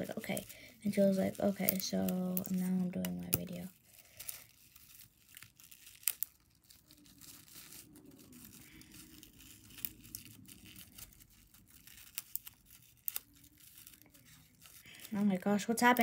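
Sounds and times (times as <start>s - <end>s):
sheet material crinkling: 0.0s - 16.0s.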